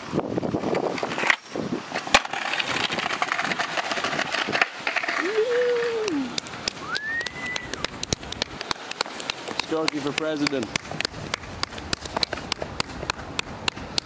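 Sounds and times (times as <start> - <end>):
skateboard wheels rattling on bricks: 0.6 - 14.0
sharp skateboard clack: 0.7 - 14.0.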